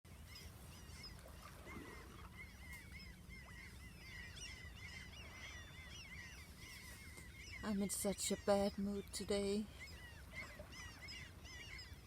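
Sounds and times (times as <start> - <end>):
flock of birds chirping: 0.1 - 12.0.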